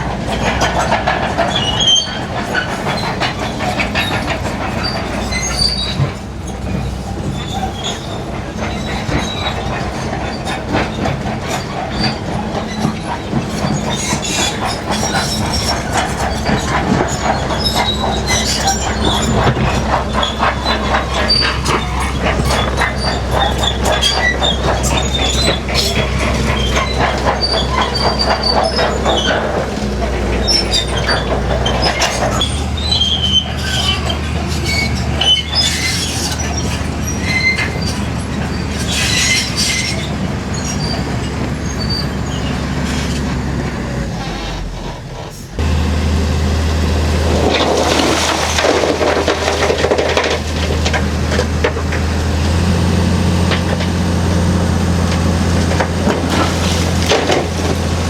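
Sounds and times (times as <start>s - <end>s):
bulldozer diesel engine: 0.0s - 58.0s
steel tracks squealing and clanking: 0.0s - 58.0s.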